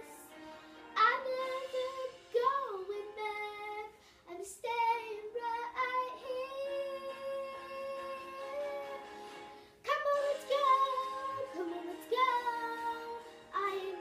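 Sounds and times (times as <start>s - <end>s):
girl singing: 0.0s - 9.1s, 9.8s - 14.0s.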